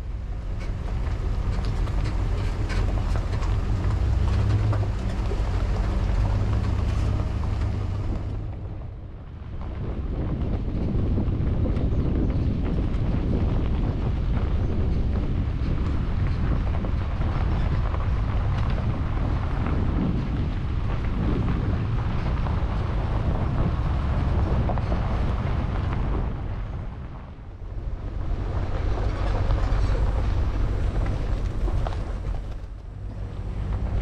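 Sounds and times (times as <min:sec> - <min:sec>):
car road noise: 0:00.0 - 0:34.0
wind buffeting microphone: 0:00.0 - 0:34.0.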